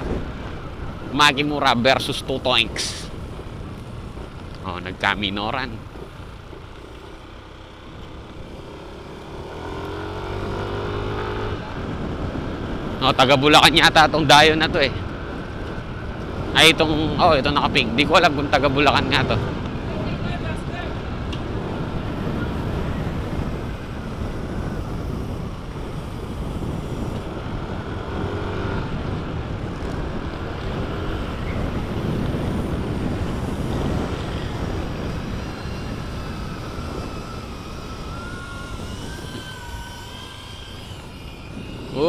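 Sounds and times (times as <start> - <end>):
motorcycle running: 0.0 - 42.0
wind rushing over microphone: 0.0 - 42.0.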